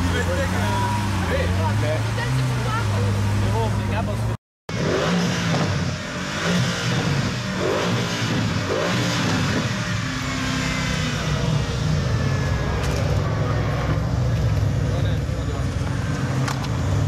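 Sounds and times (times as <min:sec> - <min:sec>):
car engine deep rumble: 0:00.0 - 0:17.0.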